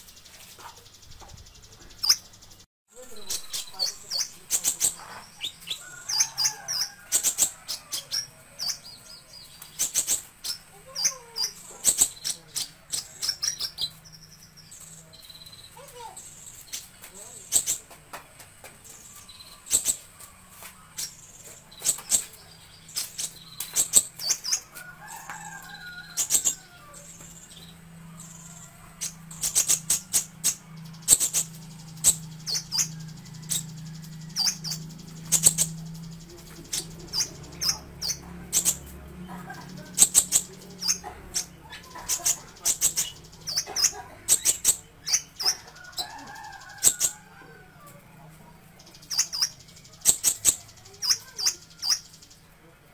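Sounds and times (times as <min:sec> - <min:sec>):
sunbird high sharp chirps: 0:00.0 - 0:18.0, 0:18.8 - 0:47.6, 0:48.8 - 0:52.5
steady low hum: 0:00.0 - 0:50.9.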